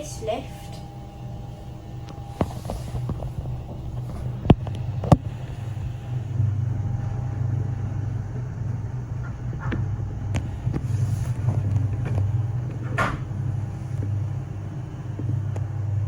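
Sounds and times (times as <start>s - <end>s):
lift cabin low hum: 0.0s - 16.0s.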